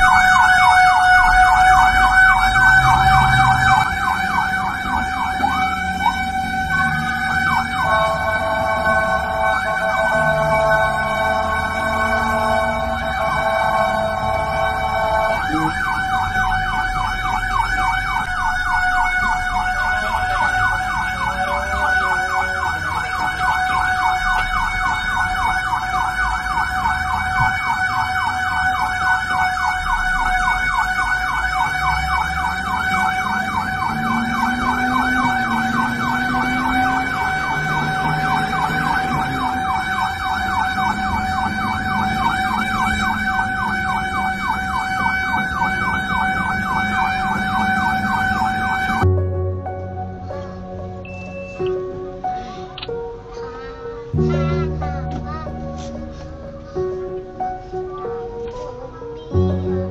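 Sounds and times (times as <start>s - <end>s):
electronic siren warbling: 0.0s - 49.3s.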